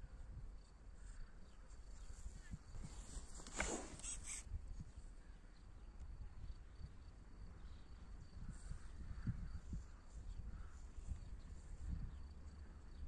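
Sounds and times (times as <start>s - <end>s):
wind rumble on microphone: 0.0s - 13.0s
insects chirring: 0.6s - 13.0s.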